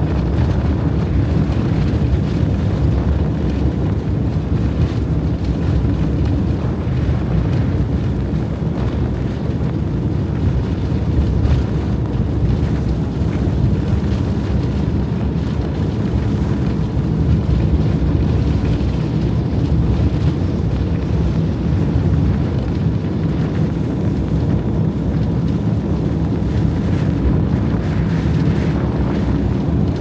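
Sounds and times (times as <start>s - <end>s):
blizzard wind buffeting microphone: 0.0s - 30.0s.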